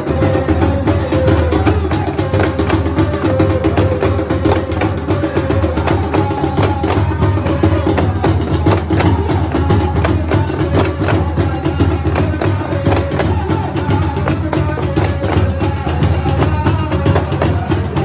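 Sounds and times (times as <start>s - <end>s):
chanting voices: 0.0s - 18.0s
hand drums fast rhythm: 0.0s - 18.0s.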